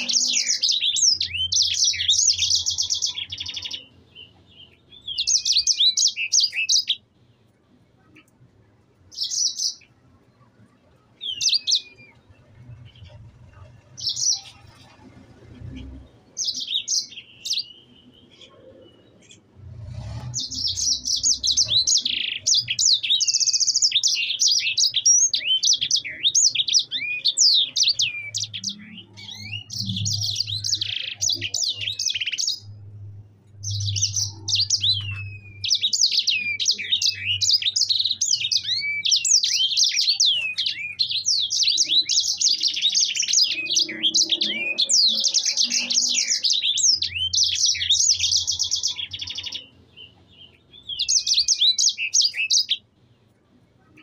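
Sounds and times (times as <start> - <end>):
finch singing chirps and trills: 0.0 - 7.1, 9.0 - 10.2, 10.9 - 52.9.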